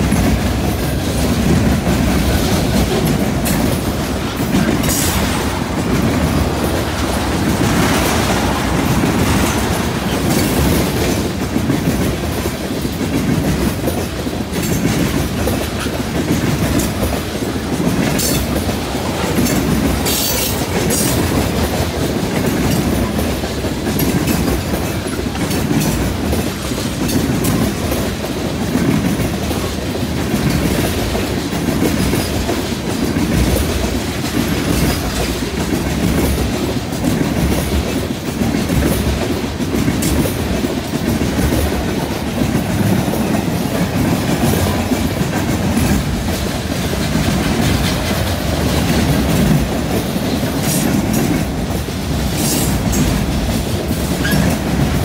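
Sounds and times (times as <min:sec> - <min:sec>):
train wheels rumbling on rail: 0:00.0 - 0:55.0
wheels clickety-clack on joints: 0:00.0 - 0:55.0.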